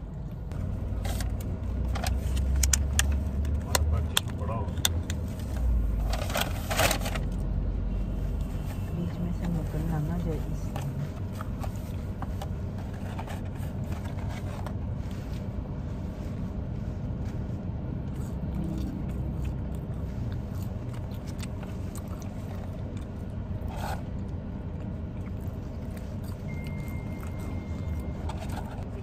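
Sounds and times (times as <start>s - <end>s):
car cabin hum: 0.0s - 29.0s.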